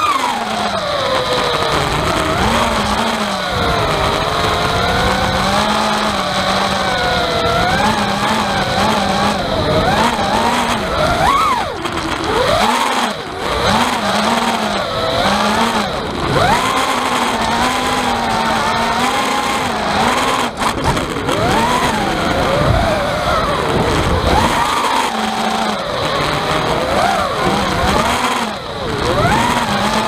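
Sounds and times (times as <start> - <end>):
quadcopter motors whining: 0.0 - 30.0
rattle: 0.0 - 30.0.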